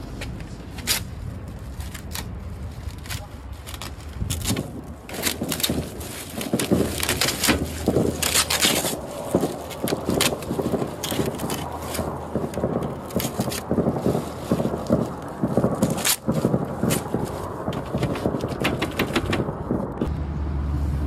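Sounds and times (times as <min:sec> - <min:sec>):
brittle covering crackling torn: 0:00.2 - 0:19.5.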